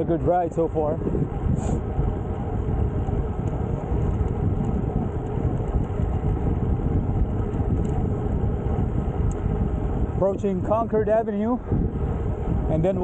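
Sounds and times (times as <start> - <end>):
bike tyres rolling on asphalt: 0.0 - 13.0
wind rushing on microphone: 0.0 - 13.0.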